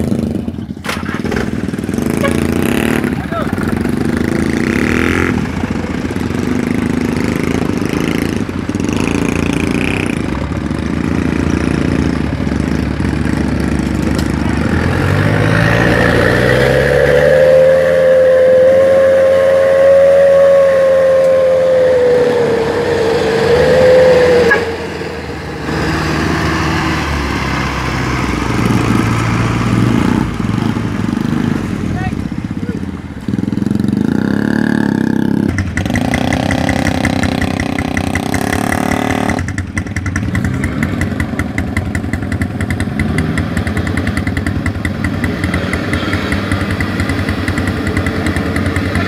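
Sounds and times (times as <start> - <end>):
truck diesel engine revving: 0.0 - 49.0.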